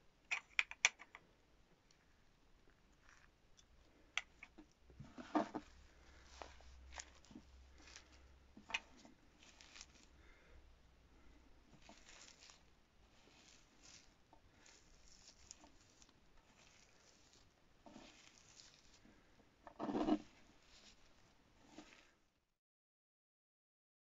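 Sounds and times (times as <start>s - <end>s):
clay crackling and squishing: 0.0s - 22.5s.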